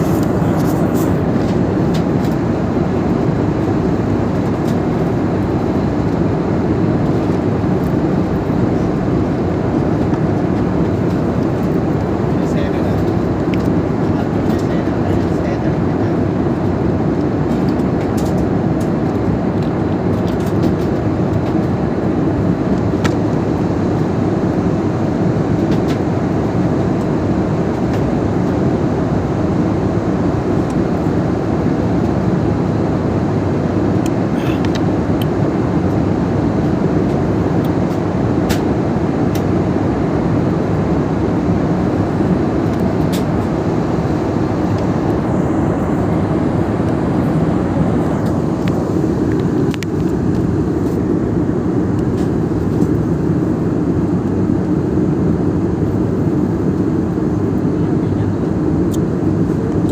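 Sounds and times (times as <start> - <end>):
jet airliner cabin noise: 0.0 - 59.9.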